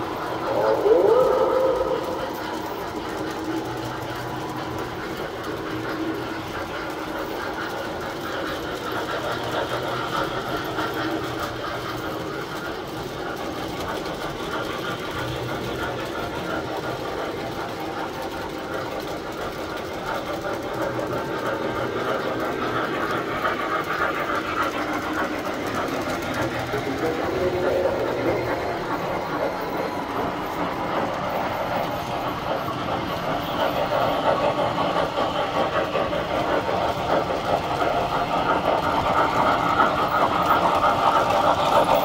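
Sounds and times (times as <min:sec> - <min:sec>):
model trains whirring and rattling: 0:00.0 - 0:42.0.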